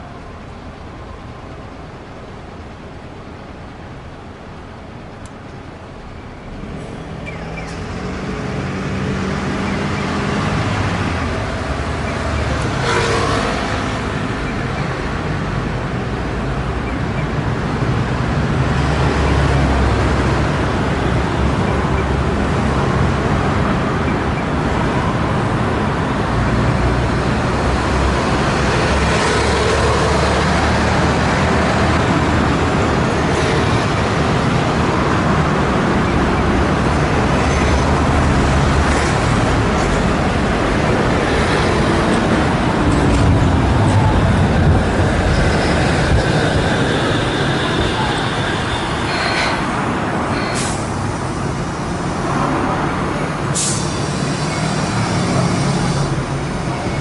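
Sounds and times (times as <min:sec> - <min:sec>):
city road traffic: 0:00.0 - 0:57.0
streetcar on tracks: 0:00.0 - 0:57.0.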